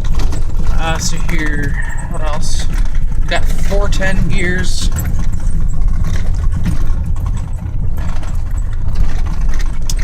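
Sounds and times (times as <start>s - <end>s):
road noise: 0.0s - 10.0s
truck engine rumble: 0.0s - 10.0s.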